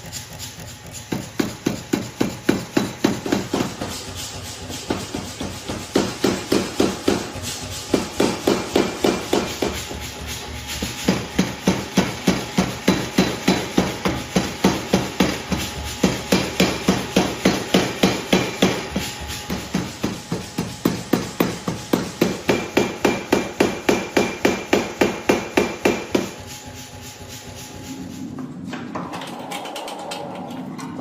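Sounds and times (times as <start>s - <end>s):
hammer striking steel: 1.1s - 26.5s.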